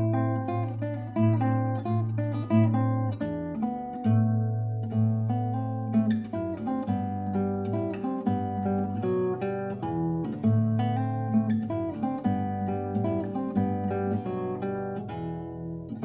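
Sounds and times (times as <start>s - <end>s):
acoustic guitar solo piece: 0.0s - 16.0s.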